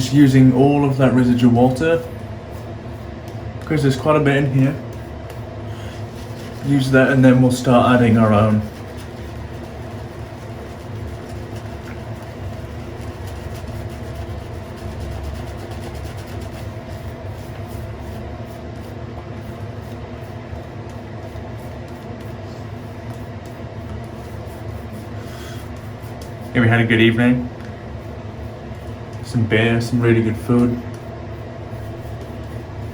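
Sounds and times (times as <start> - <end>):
shaving brush swishing on soap: 0.0 - 32.9.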